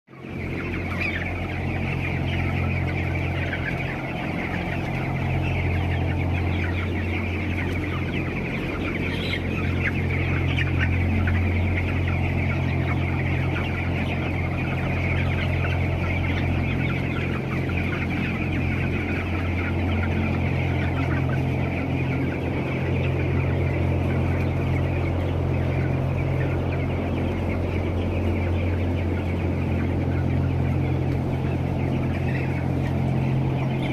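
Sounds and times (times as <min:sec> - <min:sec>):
chickens clucking: 0:00.1 - 0:33.9
steady low hum: 0:00.2 - 0:33.9.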